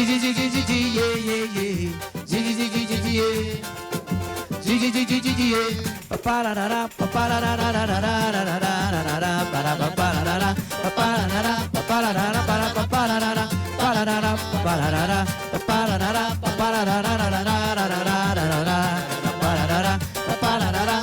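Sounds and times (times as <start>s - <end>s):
cavaquinho: 0.0s - 21.0s
pandeiro: 0.0s - 21.0s
samba percussion beat: 0.0s - 21.0s.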